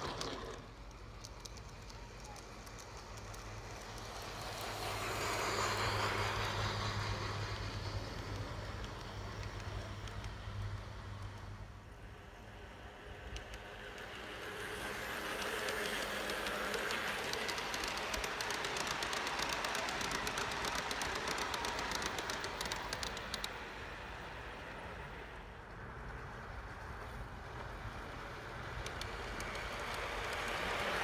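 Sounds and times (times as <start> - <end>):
model locomotive approaching: 0.0 - 31.0
model train rolling rumble: 0.0 - 31.0
wheels clicking over rail joints: 0.0 - 31.0.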